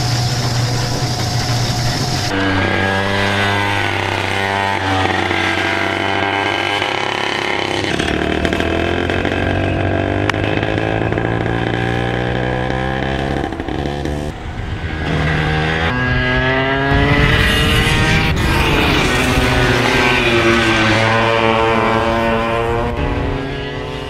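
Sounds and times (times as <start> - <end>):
go-kart engines revving: 0.0 - 24.0.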